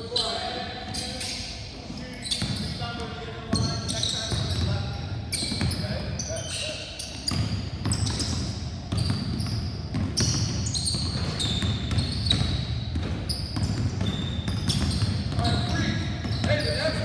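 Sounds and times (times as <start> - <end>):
sneakers squeaking on floor: 0.0 - 17.0
basketballs bouncing on wood floor: 2.4 - 6.2, 7.1 - 17.0.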